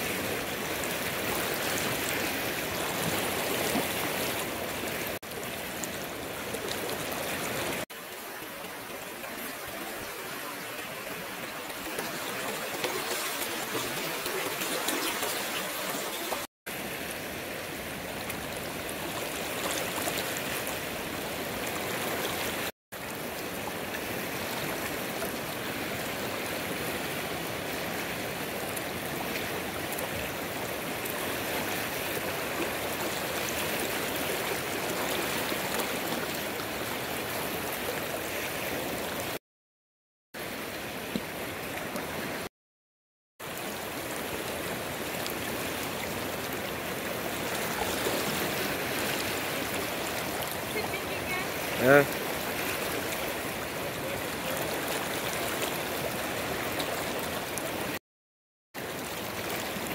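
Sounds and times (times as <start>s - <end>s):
river water rushing: 0.0s - 39.4s, 43.4s - 58.0s, 58.8s - 59.9s.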